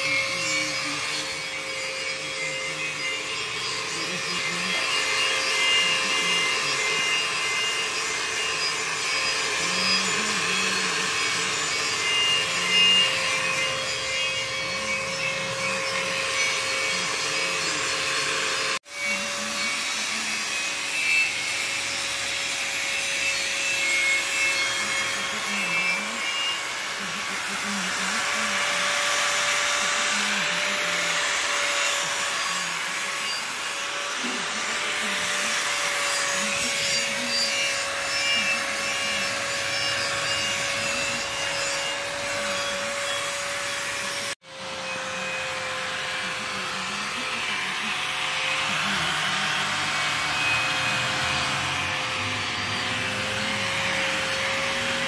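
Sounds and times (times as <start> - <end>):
angle grinder on sheet metal: 0.0 - 55.0.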